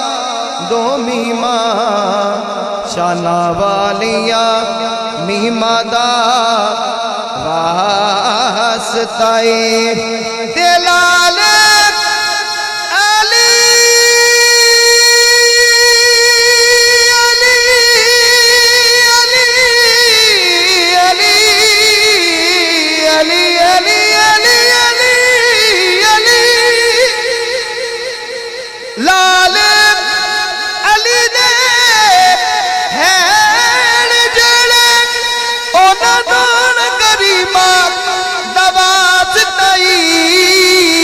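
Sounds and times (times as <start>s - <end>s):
man singing into a microphone: 0.0s - 41.0s.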